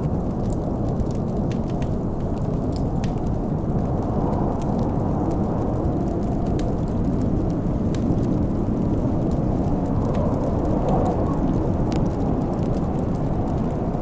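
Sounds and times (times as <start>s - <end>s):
storm wind rumble: 0.0s - 14.0s
wood fire crackling: 0.0s - 14.0s.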